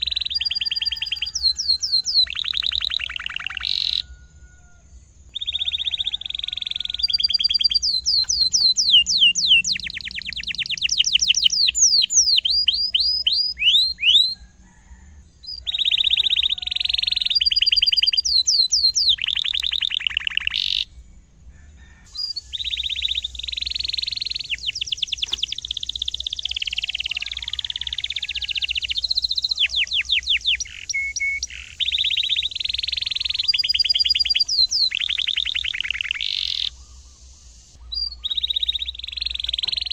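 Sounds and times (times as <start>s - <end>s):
canary singing: 0.0s - 21.2s, 22.0s - 39.9s.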